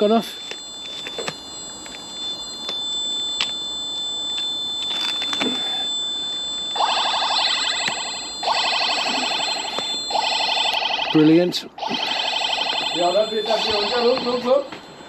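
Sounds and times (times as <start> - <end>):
motion-sensor alarm: 0.0 - 15.0.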